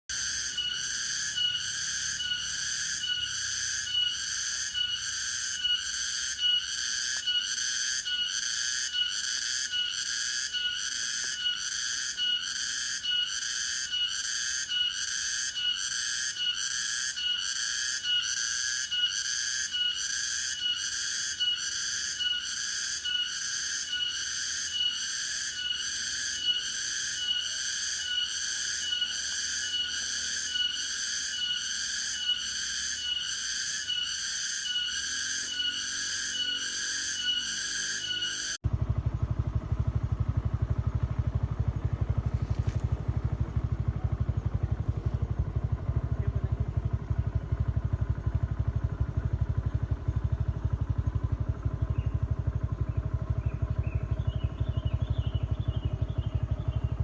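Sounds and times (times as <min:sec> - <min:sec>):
cicada buzzing song: 0:00.0 - 0:57.0.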